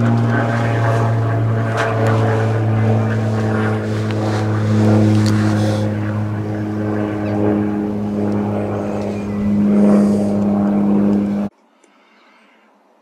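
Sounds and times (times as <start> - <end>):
engine droning: 0.0 - 11.6.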